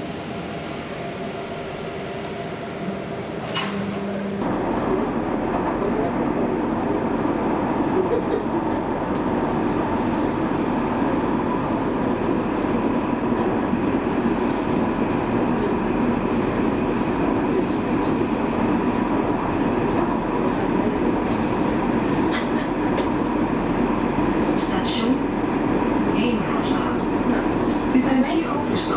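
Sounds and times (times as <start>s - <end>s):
train rumbling along track: 0.0s - 28.9s
light rail clatter: 3.3s - 7.1s, 9.0s - 28.9s.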